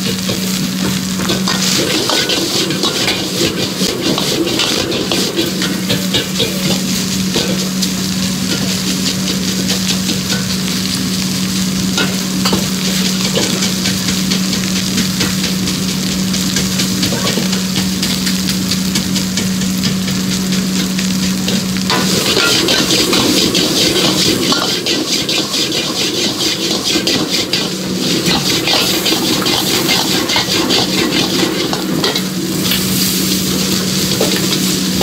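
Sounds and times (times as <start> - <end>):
rice sizzling in a wok: 0.0 - 35.0
metal ladle scraping wok: 0.1 - 10.8, 11.9 - 35.0.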